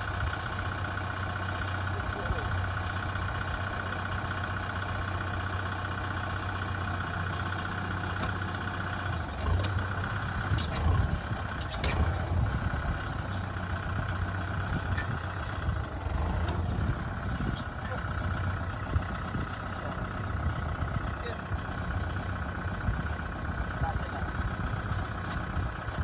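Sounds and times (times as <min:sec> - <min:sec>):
motor running steadily: 0:00.0 - 0:26.0.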